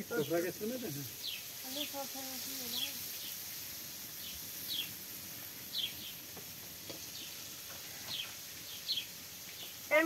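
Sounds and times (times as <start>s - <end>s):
bird chirping: 0.0s - 10.0s
faint steady hiss: 0.0s - 10.0s.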